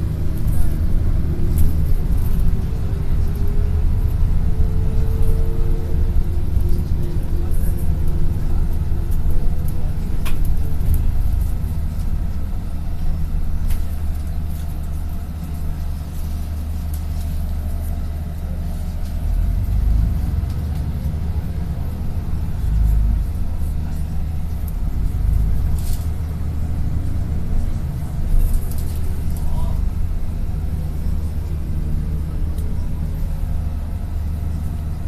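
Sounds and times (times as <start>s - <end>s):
bus engine rumbling: 0.0s - 35.0s.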